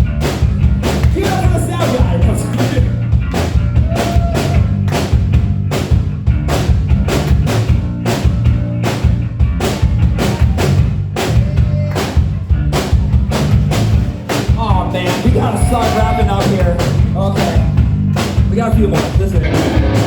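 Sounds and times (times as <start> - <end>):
drum kit beat: 0.0 - 20.0
low bass line: 0.0 - 20.0
rock band playing instrumental: 0.0 - 20.0.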